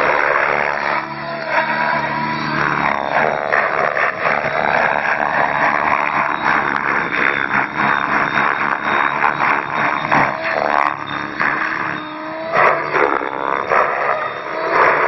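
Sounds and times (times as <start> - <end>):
helicopter rotor blades whooshing: 0.0 - 15.0
motor whine: 0.0 - 15.0.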